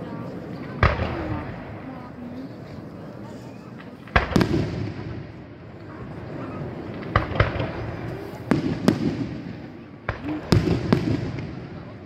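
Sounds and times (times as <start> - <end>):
low rumbling echo: 0.0 - 2.6, 4.0 - 12.0.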